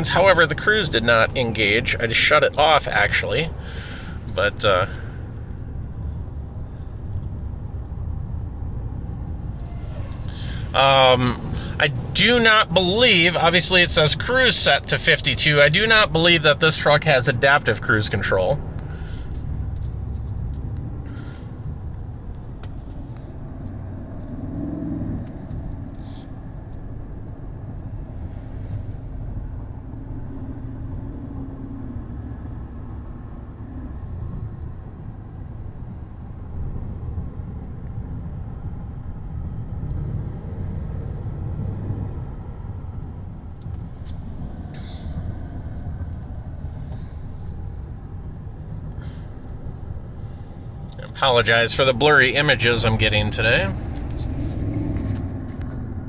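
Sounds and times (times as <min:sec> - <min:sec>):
road and engine rumble in car: 0:00.0 - 0:56.0.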